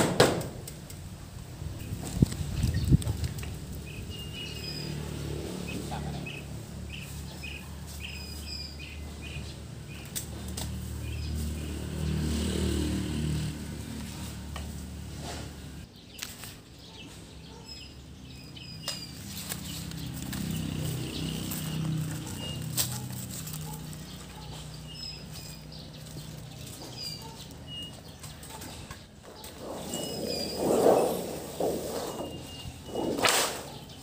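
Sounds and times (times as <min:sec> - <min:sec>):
small birds chirping: 0:01.7 - 0:34.0.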